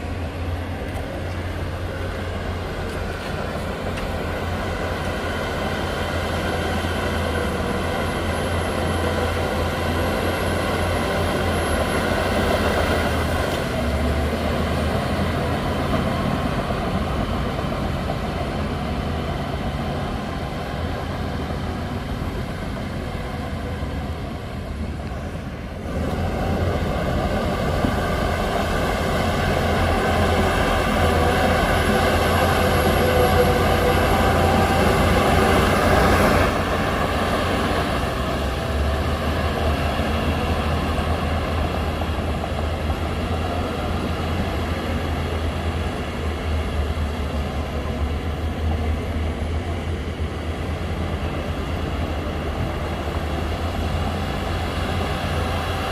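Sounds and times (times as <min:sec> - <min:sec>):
heavy diesel engine droning: 0:00.0 - 0:55.9.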